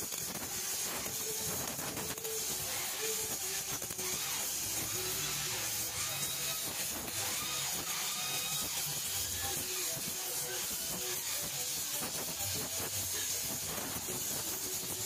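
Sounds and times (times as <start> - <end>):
welding torch flame hissing: 0.0 - 15.0.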